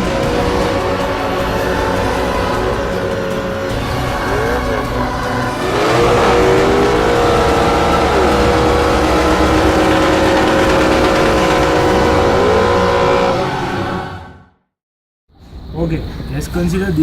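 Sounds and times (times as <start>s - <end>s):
car engine at high revs: 0.0s - 14.4s.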